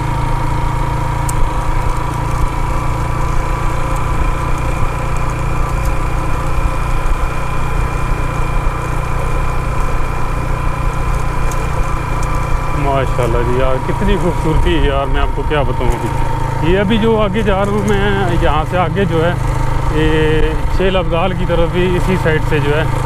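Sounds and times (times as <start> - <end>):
motorcycle engine rumble: 0.0 - 23.0
steady high whine: 0.0 - 23.0.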